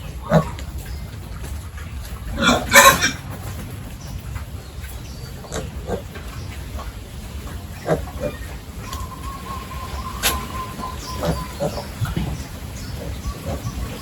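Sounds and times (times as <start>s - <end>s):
pigs grunting: 0.0s - 14.0s
steady low rumble: 0.0s - 14.0s.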